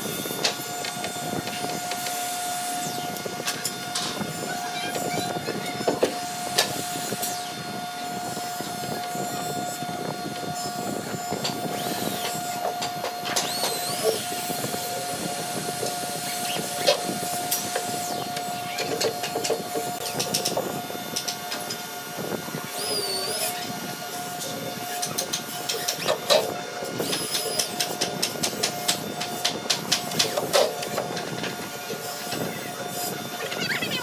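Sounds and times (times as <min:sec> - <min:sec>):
machine whining: 0:00.0 - 0:34.0.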